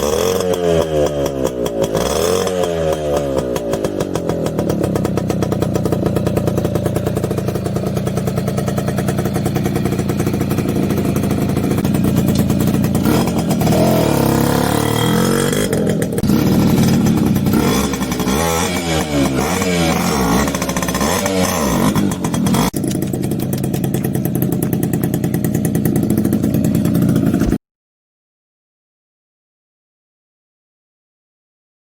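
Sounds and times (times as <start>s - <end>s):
motorcycle engine idling and revving: 0.0s - 27.6s.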